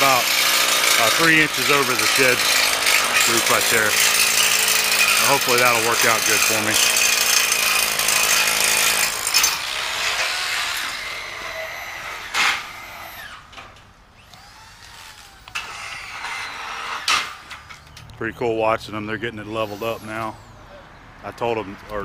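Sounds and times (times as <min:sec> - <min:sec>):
power tool on metal: 0:00.0 - 0:17.9, 0:19.4 - 0:20.6.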